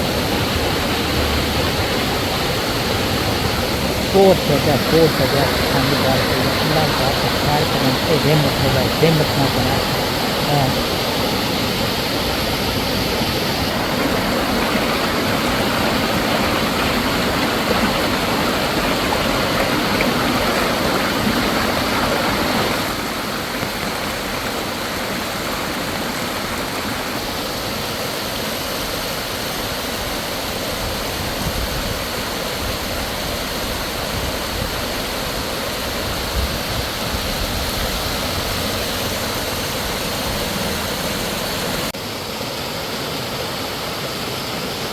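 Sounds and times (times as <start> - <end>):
heavy rain pouring: 0.0 - 42.2.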